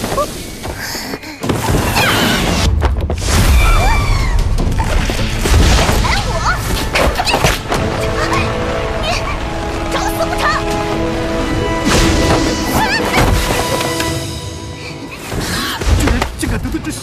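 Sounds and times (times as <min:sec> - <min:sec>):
dramatic background music: 0:01.8 - 0:17.0.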